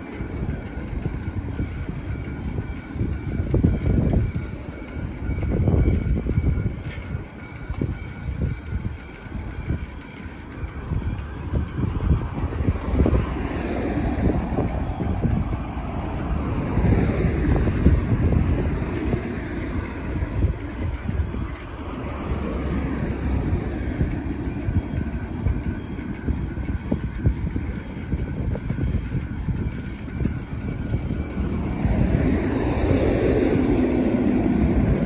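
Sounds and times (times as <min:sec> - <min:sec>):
steady humming tone: 0:00.0 - 0:35.0
surrounding traffic: 0:00.0 - 0:35.0
vehicle road noise: 0:00.0 - 0:35.0
wind buffeting microphone: 0:00.0 - 0:35.0.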